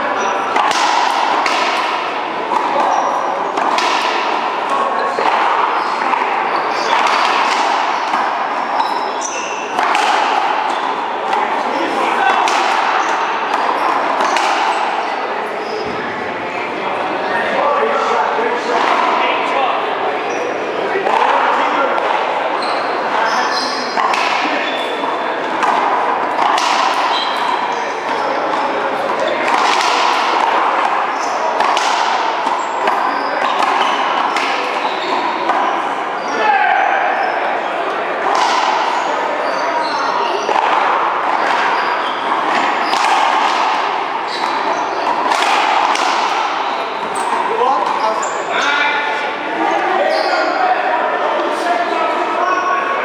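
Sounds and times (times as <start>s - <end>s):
racquetball hits echoing: 0.0s - 52.0s
steady background noise: 0.0s - 53.0s
sneaker squeaks on court floor: 0.1s - 16.2s, 20.2s - 20.7s, 22.0s - 25.5s, 26.3s - 36.4s, 37.0s - 49.1s, 50.0s - 50.6s.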